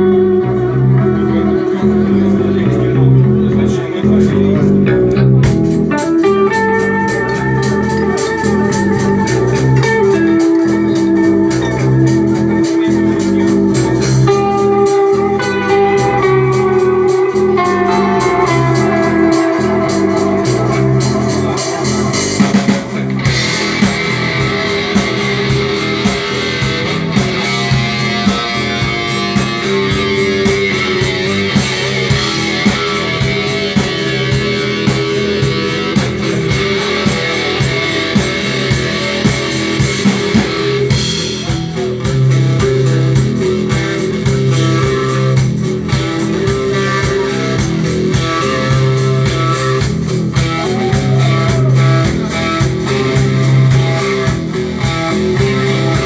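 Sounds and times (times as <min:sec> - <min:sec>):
rock guitar: 0:00.0 - 0:56.0
steady drum beat: 0:00.0 - 0:56.0.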